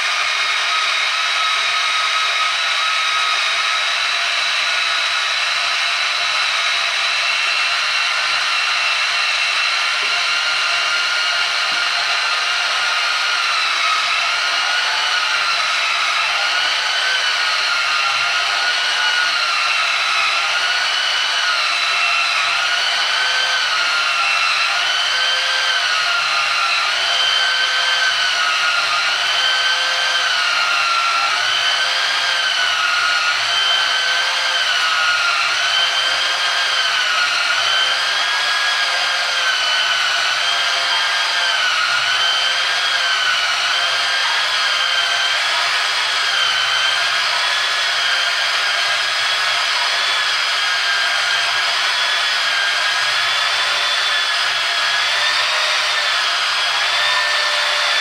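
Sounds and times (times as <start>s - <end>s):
bandsaw cutting metal: 0.0s - 58.0s.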